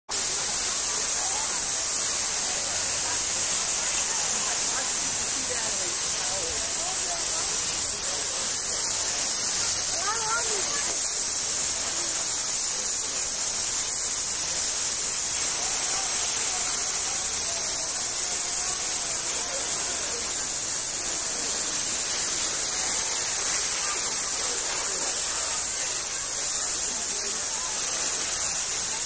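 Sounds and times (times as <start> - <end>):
faint voices: 0.1 - 29.0
water rushing and spraying: 0.1 - 29.0.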